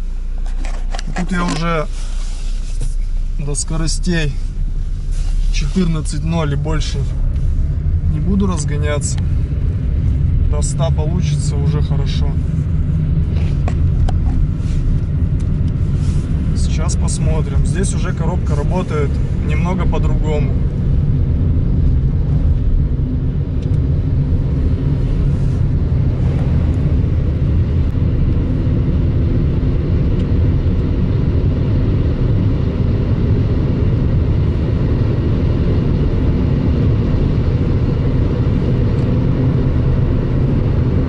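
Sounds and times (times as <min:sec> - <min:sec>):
car engine droning from inside cabin: 0:00.0 - 0:41.0.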